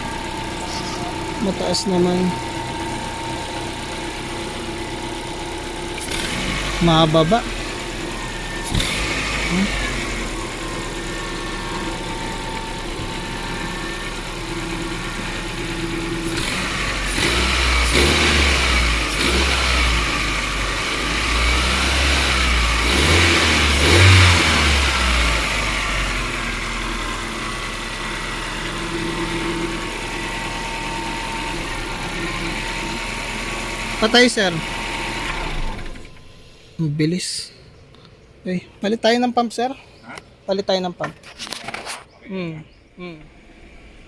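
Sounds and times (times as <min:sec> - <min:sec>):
car engine idling and revving: 0:00.0 - 0:36.8, 0:43.2 - 0:44.0.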